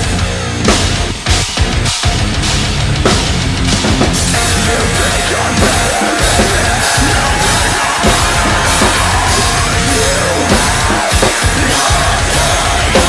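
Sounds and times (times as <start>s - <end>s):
drum kit played hard: 0.0s - 13.0s
metalcore song with distorted guitars: 0.0s - 13.0s.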